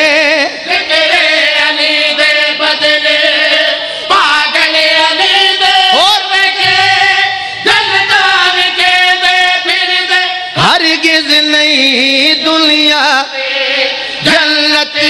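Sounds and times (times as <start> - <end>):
men chanting melodically: 0.0 - 15.0.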